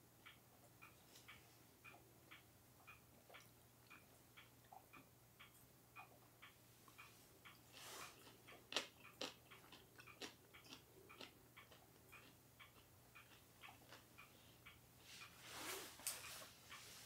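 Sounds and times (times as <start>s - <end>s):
faint steady ticking: 0.0s - 17.0s.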